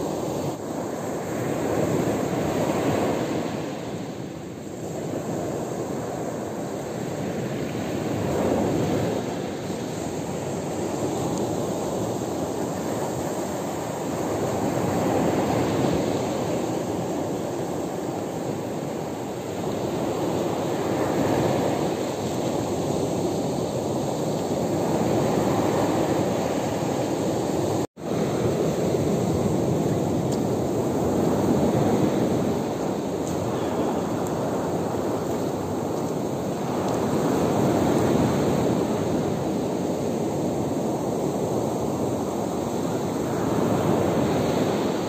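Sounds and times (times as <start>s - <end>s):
waves washing up pebble beach: 0.0s - 45.0s.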